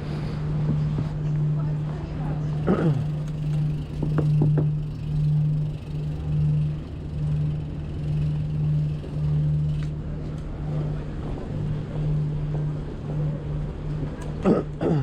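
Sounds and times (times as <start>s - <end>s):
low hum: 0.0s - 15.0s
road rumble: 0.0s - 15.0s
wind: 0.0s - 15.0s.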